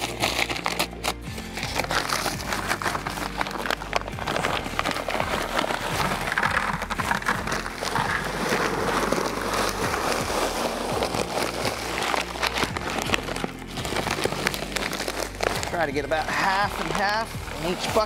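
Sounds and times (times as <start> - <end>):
dry concrete mix pouring into bucket: 0.0 - 18.0.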